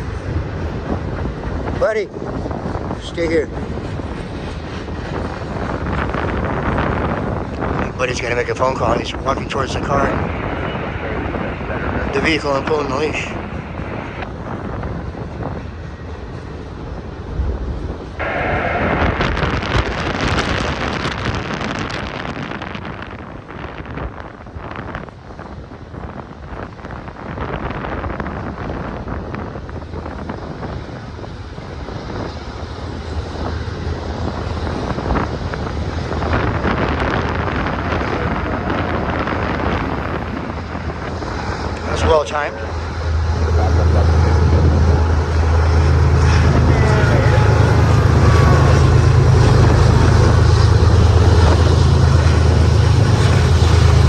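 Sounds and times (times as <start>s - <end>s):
freight train rumbling past: 0.0s - 54.0s
gusty wind buffeting microphone: 0.0s - 54.0s.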